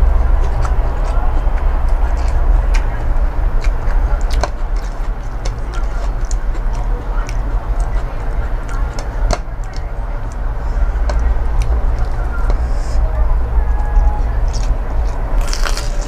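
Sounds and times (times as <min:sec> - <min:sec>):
chewing and lip-smacking: 0:00.0 - 0:16.0
steady low rumble: 0:00.0 - 0:16.0.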